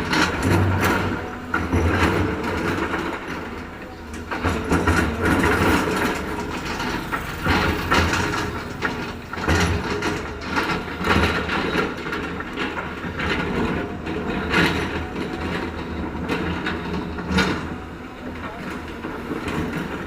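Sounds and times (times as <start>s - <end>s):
heavy machinery engine: 0.0s - 20.0s
metallic clanks and knocks: 0.0s - 20.0s.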